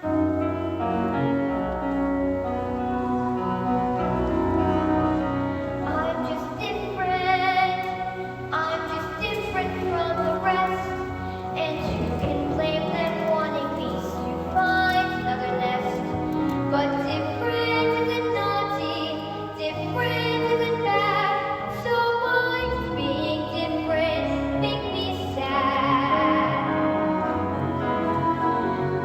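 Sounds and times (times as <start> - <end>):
instrumental accompaniment: 0.0 - 29.0
woman singing with vibrato: 5.7 - 29.0.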